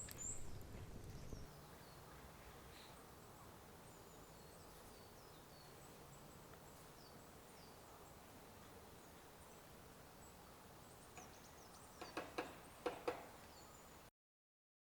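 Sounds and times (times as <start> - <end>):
faint outdoor background noise: 0.0 - 14.1
small birds chirping: 0.0 - 14.1.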